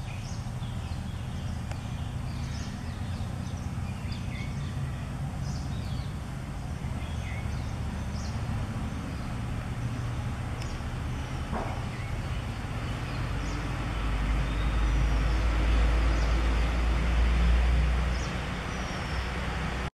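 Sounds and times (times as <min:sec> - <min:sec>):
low traffic rumble: 0:00.0 - 0:19.9
vehicle passing: 0:00.0 - 0:19.9.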